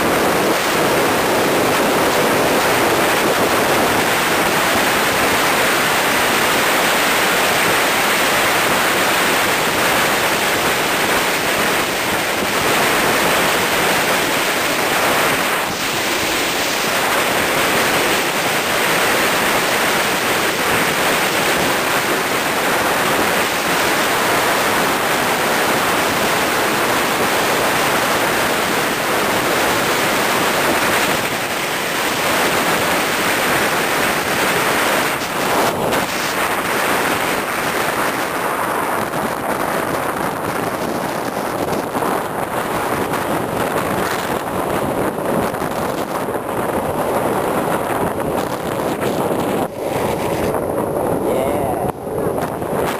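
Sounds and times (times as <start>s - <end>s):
road noise: 0.0s - 52.9s
wind rushing over microphone: 0.0s - 52.9s.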